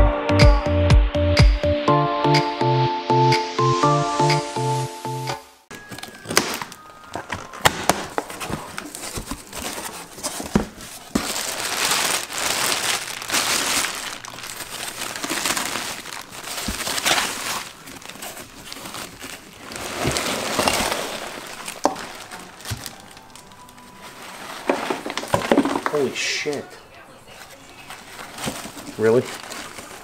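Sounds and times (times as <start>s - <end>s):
plastic bag crinkling: 5.7s - 30.0s.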